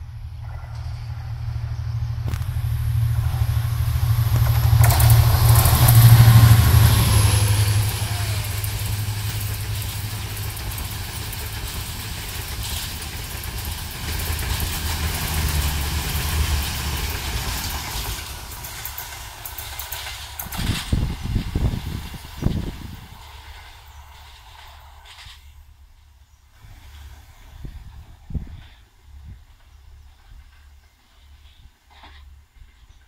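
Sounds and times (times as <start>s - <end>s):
diesel locomotive engine drone: 0.0s - 33.0s
train wheels clicking over rail joints: 0.1s - 33.0s.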